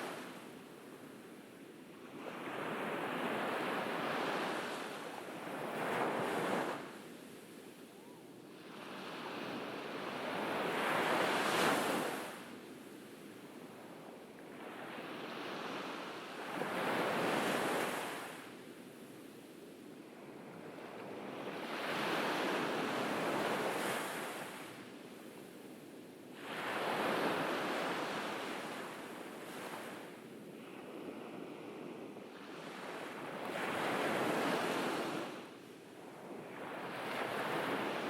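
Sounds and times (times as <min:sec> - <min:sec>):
ocean waves breaking on beach: 0:00.0 - 0:01.1, 0:02.0 - 0:12.6, 0:13.7 - 0:18.6, 0:20.1 - 0:38.0.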